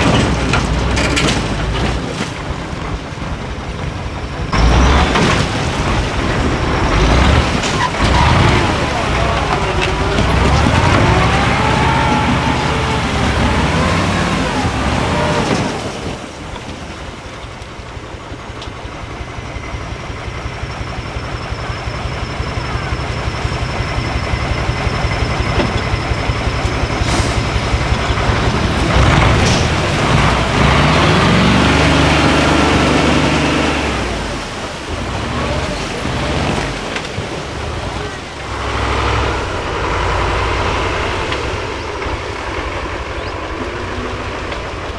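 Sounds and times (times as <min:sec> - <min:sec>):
truck engine revving under load: 0:00.0 - 0:44.9.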